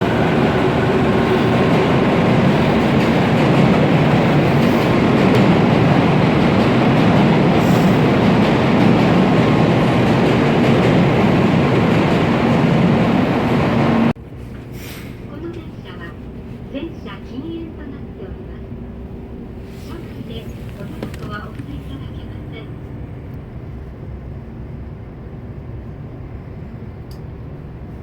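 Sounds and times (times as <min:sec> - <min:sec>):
train rushing rail noise: 0:00.0 - 0:28.0.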